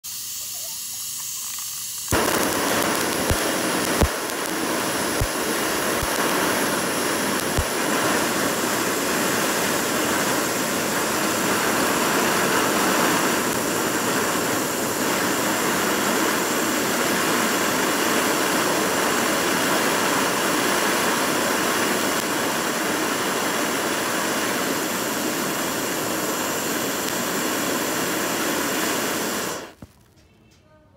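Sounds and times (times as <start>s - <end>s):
butane torch flame hissing: 0.0s - 30.2s
sharp pops: 0.3s - 30.3s.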